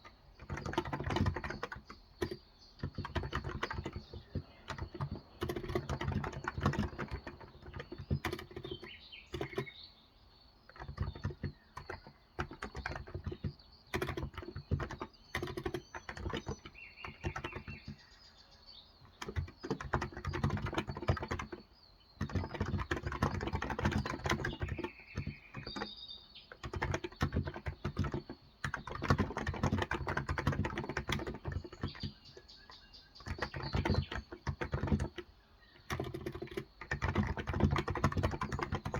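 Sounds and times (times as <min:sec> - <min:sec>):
soft keyboard typing: 0:00.0 - 0:09.8, 0:10.6 - 0:38.9
faint birds chirping: 0:00.0 - 0:38.9.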